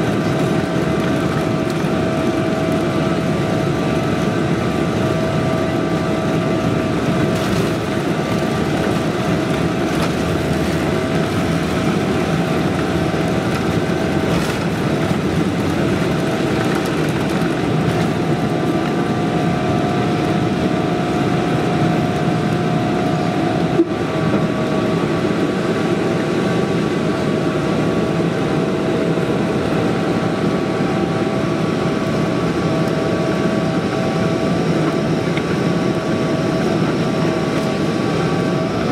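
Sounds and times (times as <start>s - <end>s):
fan tone hum: 0.0s - 38.9s
jet engines roaring: 0.0s - 38.9s.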